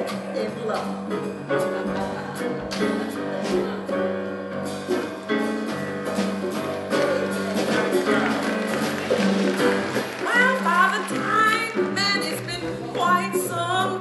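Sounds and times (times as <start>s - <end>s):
congas: 0.0s - 14.0s
drum kit with cymbals: 0.0s - 14.0s
upright bass: 0.0s - 14.0s.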